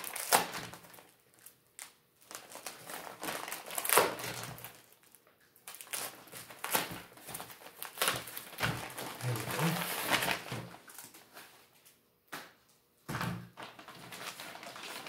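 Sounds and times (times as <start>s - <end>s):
plastic packaging crinkling: 0.0s - 11.8s, 13.6s - 15.0s.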